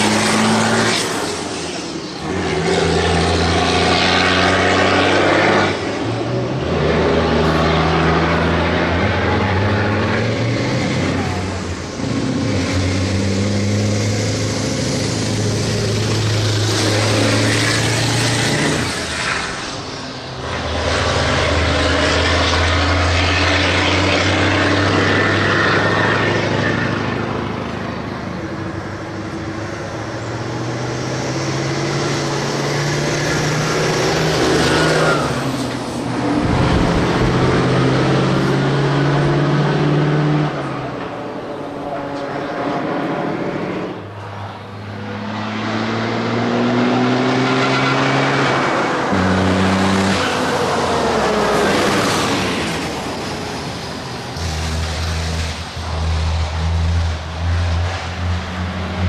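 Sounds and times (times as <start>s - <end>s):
truck diesel engines at full throttle: 0.0s - 59.0s.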